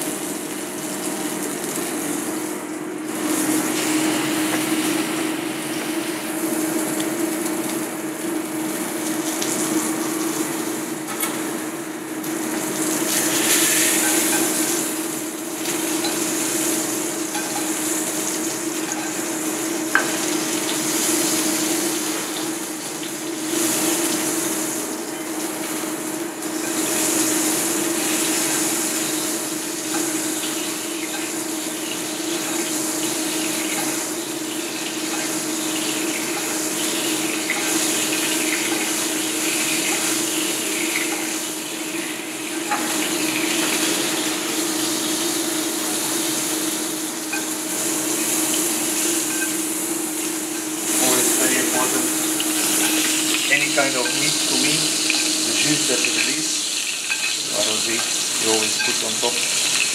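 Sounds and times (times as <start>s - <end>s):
meat sizzling in a frying pan: 0.0s - 59.9s.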